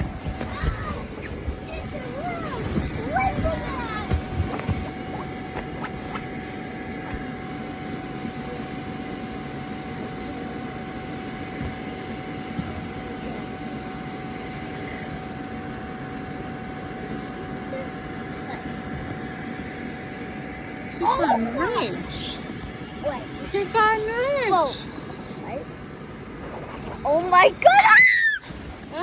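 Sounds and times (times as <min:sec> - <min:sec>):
mechanical hum with high whine: 0:00.0 - 0:29.0.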